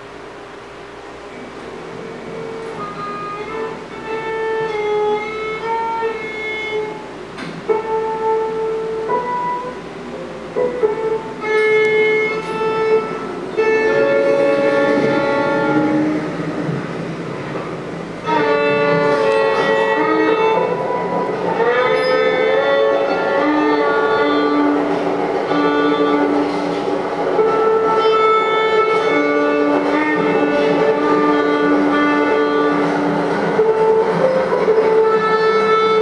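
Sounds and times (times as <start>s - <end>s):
music with long held notes: 1.3s - 36.0s.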